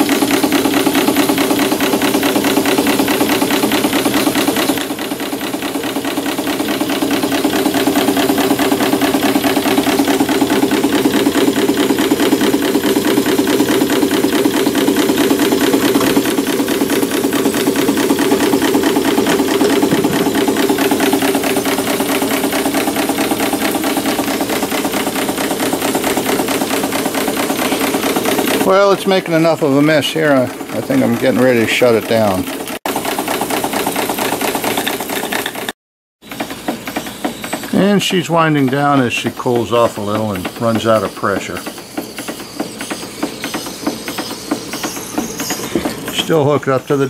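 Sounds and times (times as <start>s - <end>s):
model steam engine running: 0.0s - 47.0s.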